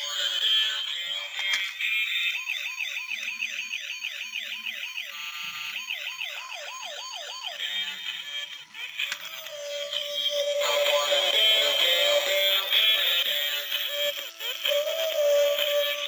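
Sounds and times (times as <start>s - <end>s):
toy electronic siren: 0.0s - 16.0s.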